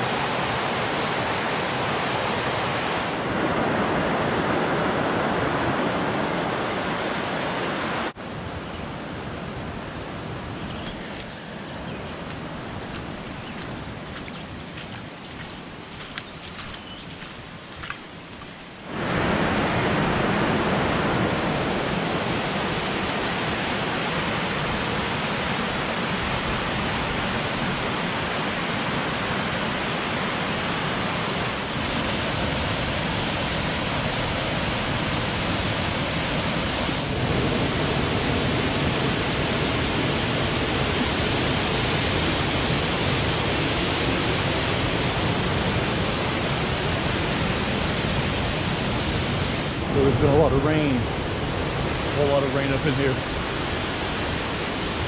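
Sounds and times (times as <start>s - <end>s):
waterfall rushing: 10.9s - 55.0s.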